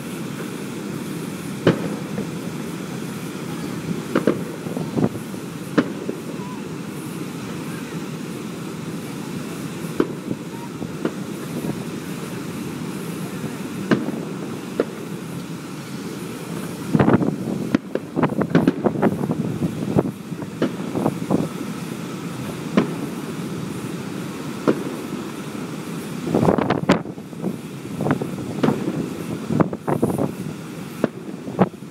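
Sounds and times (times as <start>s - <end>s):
fireworks bangs: 0.0s - 31.9s.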